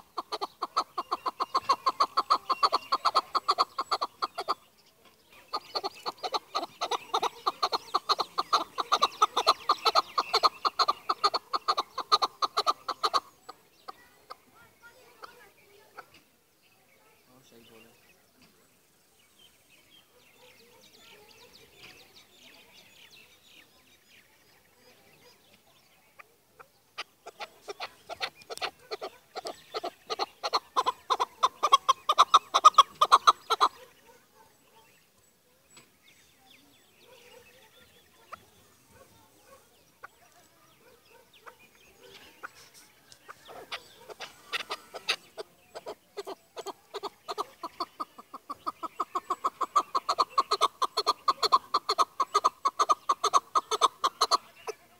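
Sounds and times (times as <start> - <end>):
partridge clucking calls: 0.0 - 16.4, 20.4 - 54.9.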